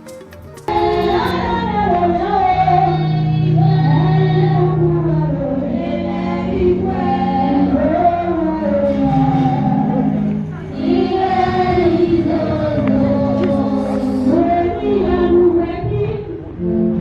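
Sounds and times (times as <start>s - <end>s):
group of voices singing gospel: 0.7s - 17.0s.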